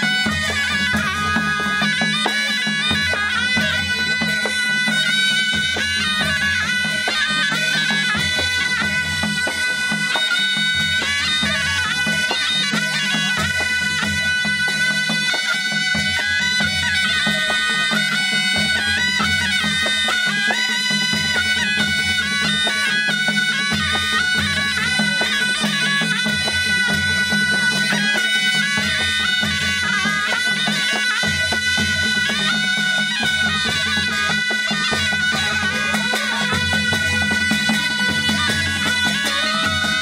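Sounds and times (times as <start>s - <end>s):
drums beating: 0.0s - 40.0s
shawm and trumpets melody: 0.0s - 40.0s.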